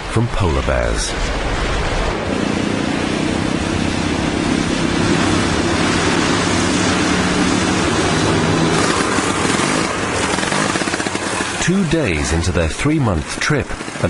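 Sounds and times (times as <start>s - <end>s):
snowmobile engine running: 2.1s - 14.0s.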